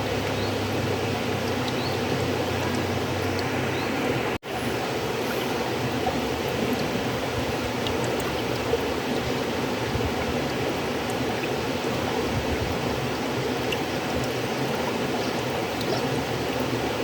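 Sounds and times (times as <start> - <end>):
river water flowing: 0.0 - 17.0
small water splashes: 0.0 - 17.0.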